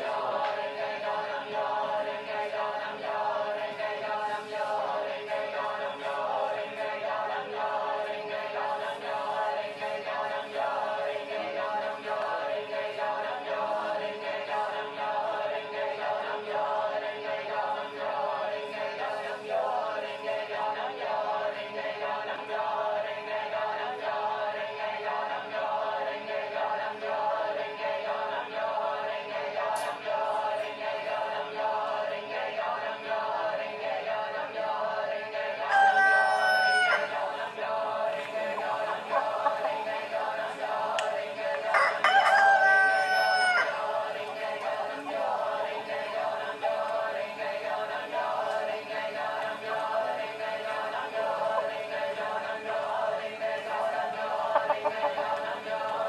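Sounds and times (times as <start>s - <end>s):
droning choir-like music: 0.0s - 56.0s.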